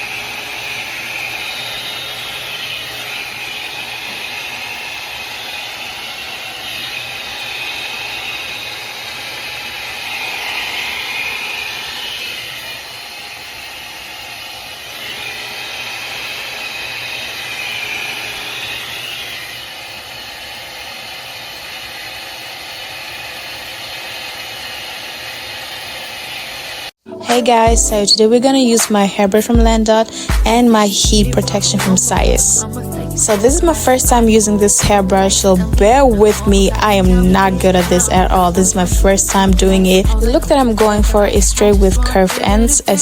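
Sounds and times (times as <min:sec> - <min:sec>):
faint motor hum: 0:00.0 - 0:43.0
rushing blown air: 0:00.0 - 0:43.0.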